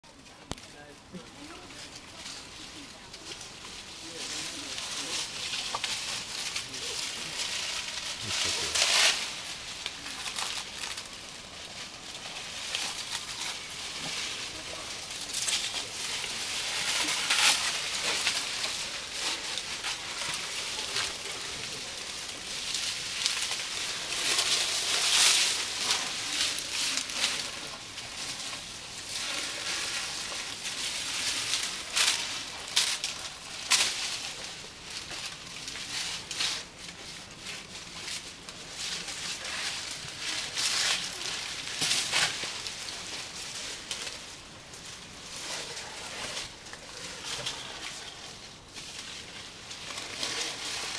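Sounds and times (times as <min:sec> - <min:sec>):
leafy branches rustling and crackling: 0:00.0 - 0:50.9.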